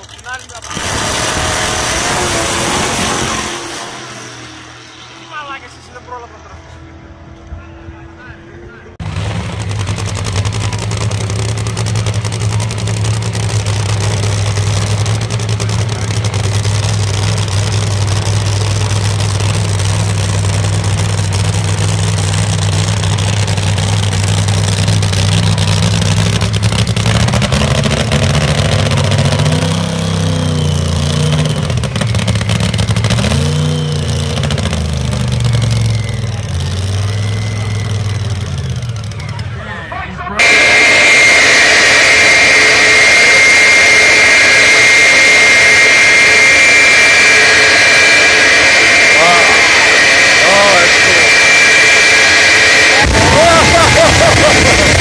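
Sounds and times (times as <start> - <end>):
racing engine revving: 0.4 - 7.6, 8.4 - 39.6, 40.3 - 55.0.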